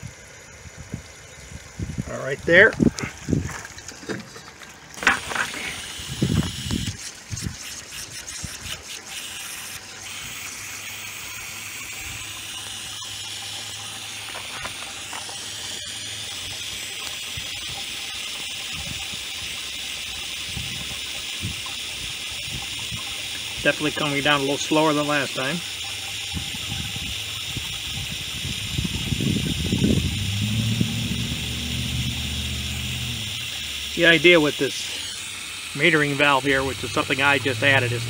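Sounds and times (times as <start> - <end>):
water rushing through hose: 1.7 - 38.0.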